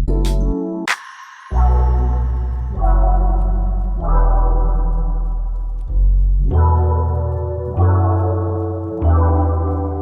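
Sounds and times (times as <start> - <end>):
deep bass: 0.0 - 0.6, 1.6 - 10.0
synthesizer chords: 0.0 - 10.0.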